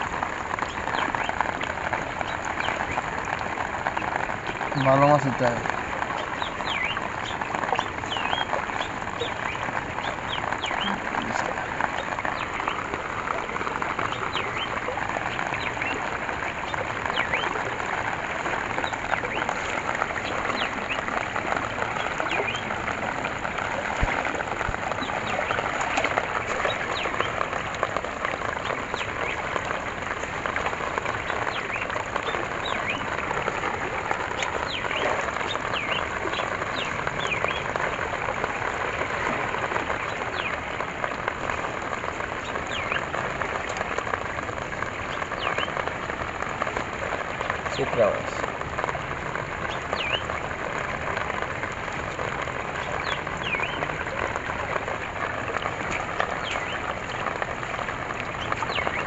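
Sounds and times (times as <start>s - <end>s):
water rushing into net: 0.0s - 59.0s.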